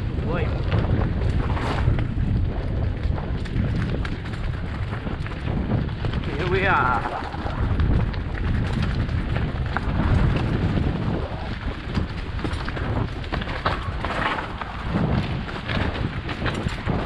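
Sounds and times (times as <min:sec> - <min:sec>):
bike rattling and knocking: 0:00.0 - 0:17.0
wind rumble on microphone: 0:00.0 - 0:17.0.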